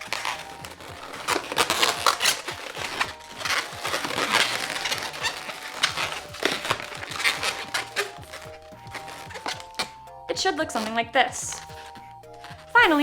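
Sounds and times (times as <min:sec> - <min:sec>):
balloons squeaking and rubbing: 0:00.0 - 0:13.0.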